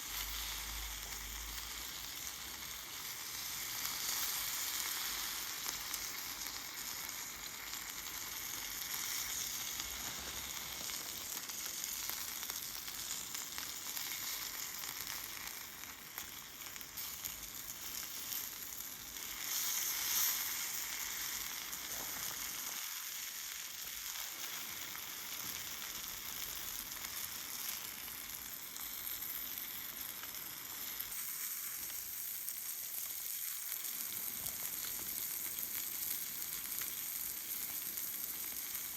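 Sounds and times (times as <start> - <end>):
food sizzling: 0.0 - 38.9.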